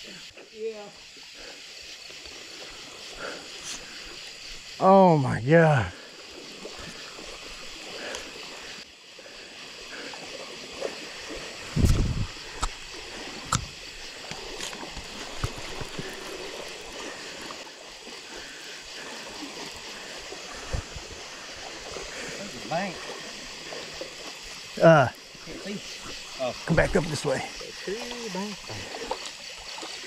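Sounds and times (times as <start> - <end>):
river water gurgling: 0.0 - 30.0.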